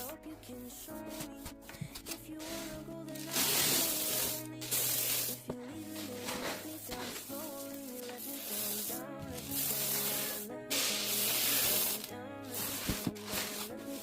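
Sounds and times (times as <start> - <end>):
background music with melody: 0.0 - 14.0.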